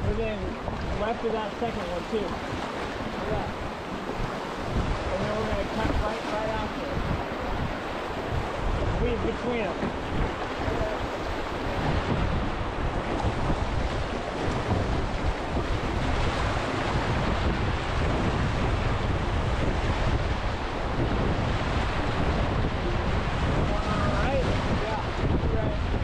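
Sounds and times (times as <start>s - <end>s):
river rapids roaring: 0.0s - 26.0s
wind buffeting microphone: 0.0s - 26.0s.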